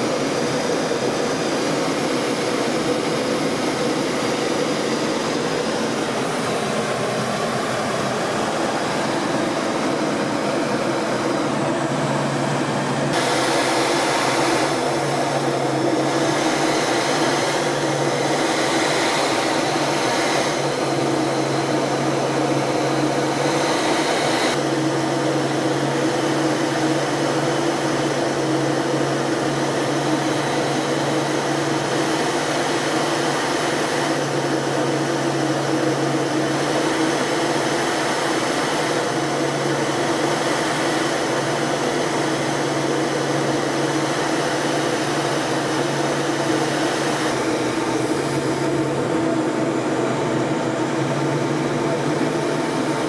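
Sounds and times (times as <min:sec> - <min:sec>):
aircraft engine drone: 0:00.0 - 0:53.0.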